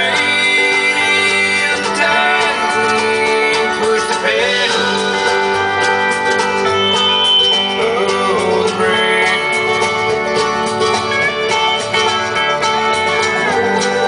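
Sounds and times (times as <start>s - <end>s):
country song with guitars: 0.0s - 14.0s.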